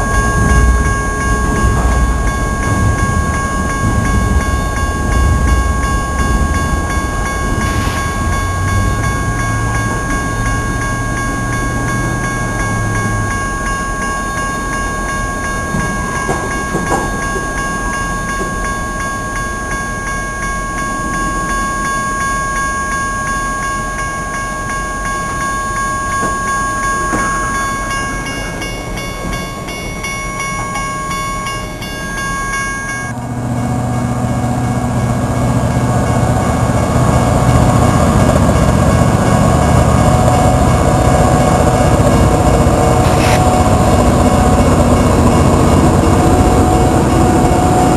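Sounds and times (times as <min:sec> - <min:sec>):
crossing warning bell ringing: 0:00.0 - 0:47.9
diesel locomotive engine rumble: 0:00.0 - 0:47.9.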